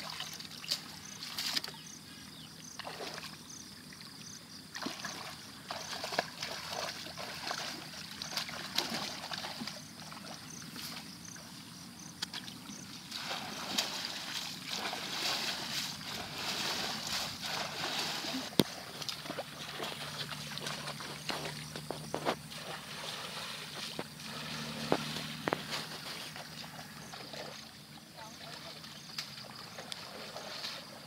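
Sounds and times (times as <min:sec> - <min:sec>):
shallow water splashing: 0:02.6 - 0:11.6, 0:12.3 - 0:31.0.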